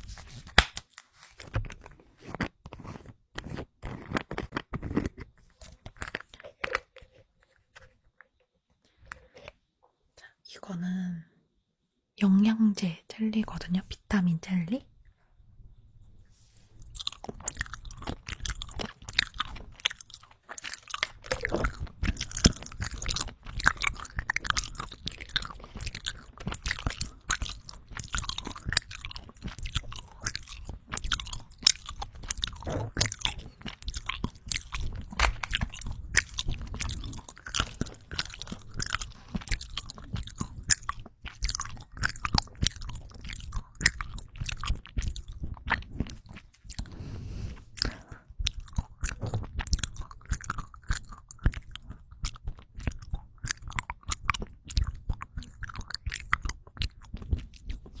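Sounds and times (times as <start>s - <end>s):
chewing sticky gummies: 1.7s - 7.9s, 16.6s - 58.0s.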